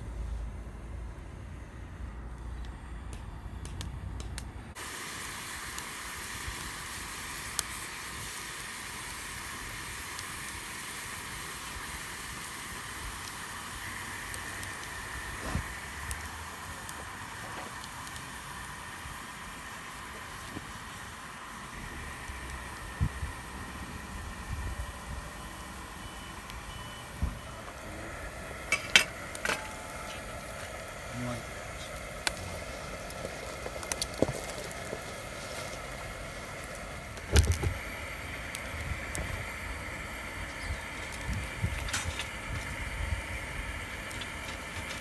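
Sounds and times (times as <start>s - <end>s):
steady hiss: 0.0s - 45.0s.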